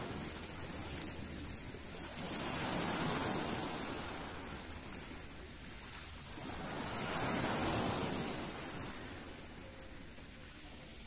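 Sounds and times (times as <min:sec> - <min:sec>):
waves washing onto pebble beach: 0:00.0 - 0:11.0.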